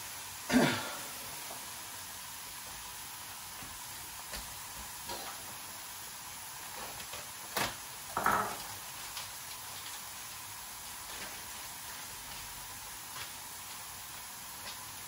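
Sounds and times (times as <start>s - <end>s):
shallots sizzling in a frying pan: 0.0s - 15.0s.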